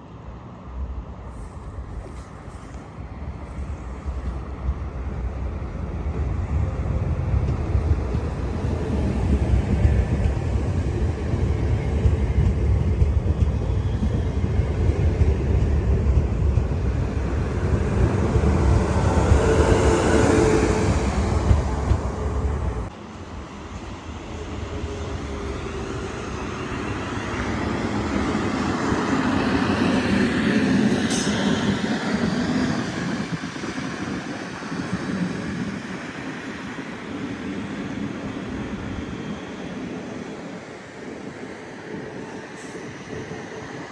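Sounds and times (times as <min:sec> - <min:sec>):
train rumbling past: 0:00.2 - 0:43.9.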